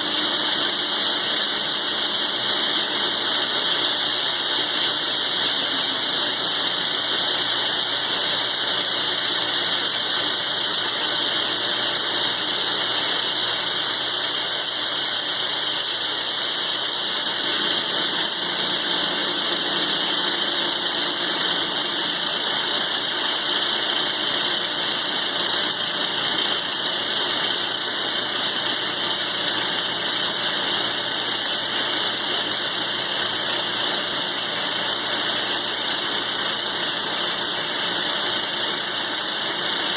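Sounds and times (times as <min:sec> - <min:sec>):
milling machine cutting steel: 0:00.0 - 0:39.9.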